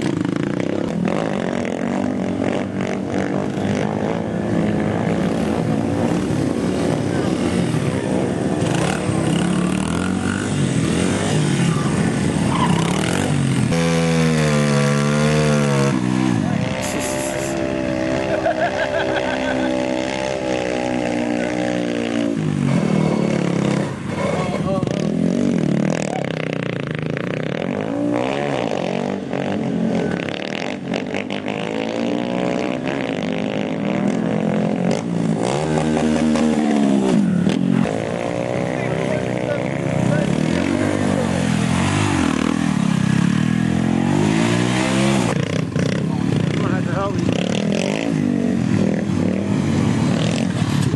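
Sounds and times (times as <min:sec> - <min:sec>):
pit bike engines revving: 0:00.0 - 0:50.9.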